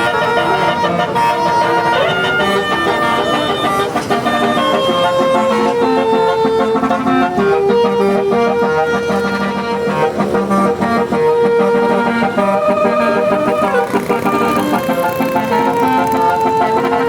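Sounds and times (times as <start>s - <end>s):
bus musical horn melody: 0.0s - 17.0s.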